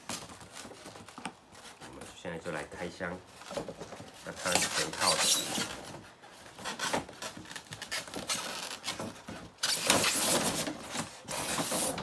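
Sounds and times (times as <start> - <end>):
cardboard box rustling and scraping: 0.0 - 12.0.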